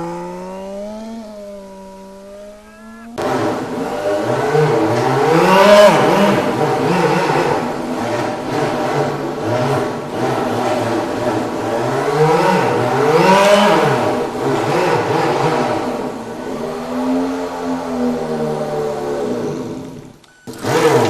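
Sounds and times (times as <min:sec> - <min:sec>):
synthesized engine sound revving: 0:00.0 - 0:21.0.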